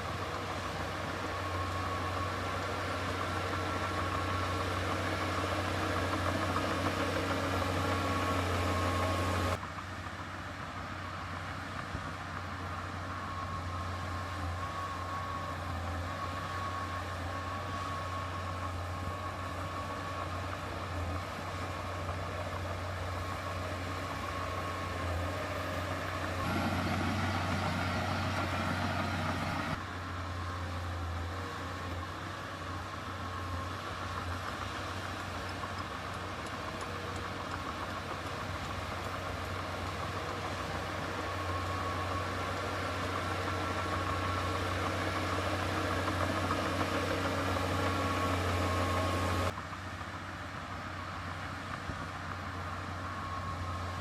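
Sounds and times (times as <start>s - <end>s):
heavy machinery diesel engine running: 0.0s - 54.0s.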